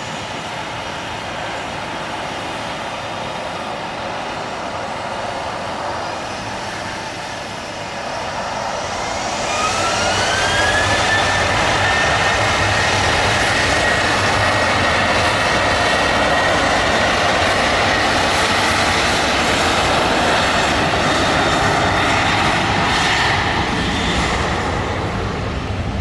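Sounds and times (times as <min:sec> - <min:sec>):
jet engines roaring and whining: 0:00.0 - 0:26.0.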